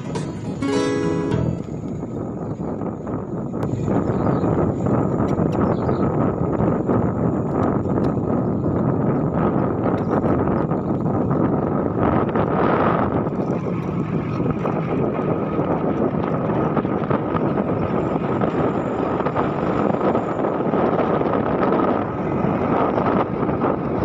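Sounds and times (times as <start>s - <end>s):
wind buffeting microphone: 1.6s - 24.0s.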